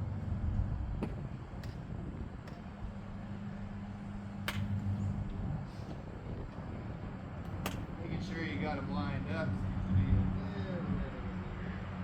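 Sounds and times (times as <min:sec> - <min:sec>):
low steady rumble and hum: 0:00.0 - 0:12.0.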